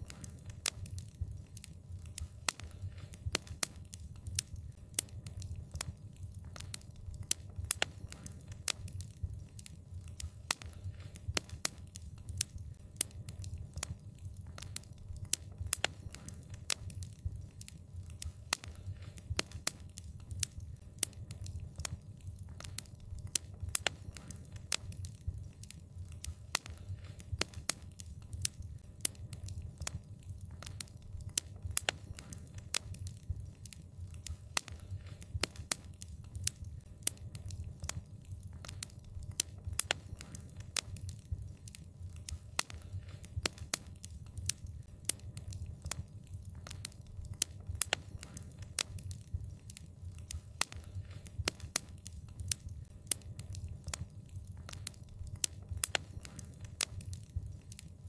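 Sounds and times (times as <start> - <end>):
fire popping and snapping: 0.0 - 58.0
low rumble of burning: 0.0 - 58.0.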